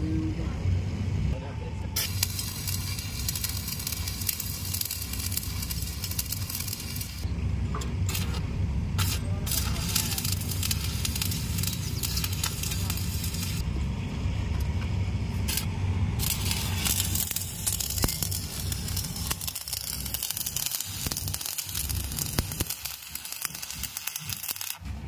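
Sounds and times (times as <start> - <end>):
steady low hum: 0.0 - 25.0
welding arc crackling and sizzling: 2.0 - 7.3, 8.0 - 13.8, 14.4 - 25.0.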